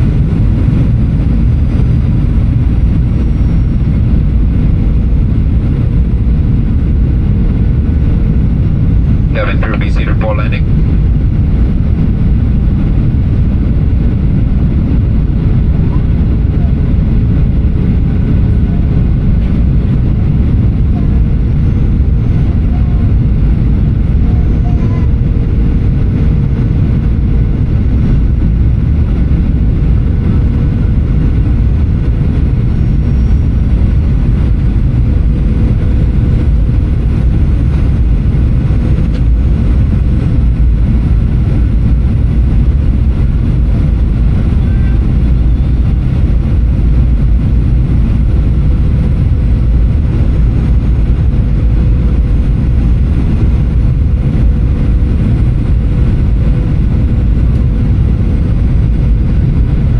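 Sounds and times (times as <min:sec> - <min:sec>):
airplane cabin engine rumble: 0:00.0 - 0:59.9
faint steady hum: 0:00.0 - 0:59.9.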